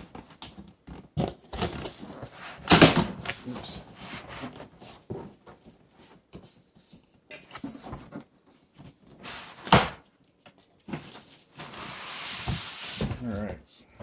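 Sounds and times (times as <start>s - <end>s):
cardboard rustling: 0.0s - 10.0s, 10.8s - 13.6s.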